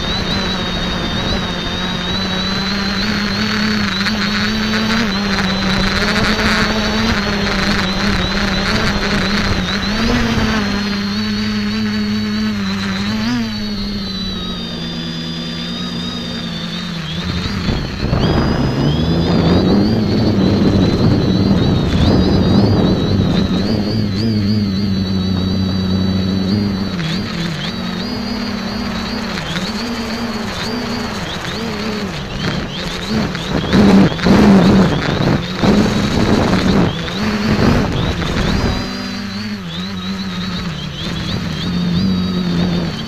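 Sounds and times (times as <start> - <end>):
quadcopter motors and propellers buzzing: 0.0 - 43.0.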